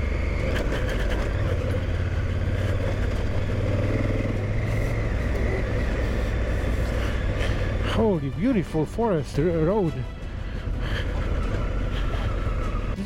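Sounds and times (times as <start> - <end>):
motorcycle engine drone: 0.0 - 13.0
road and wind noise: 0.0 - 13.0.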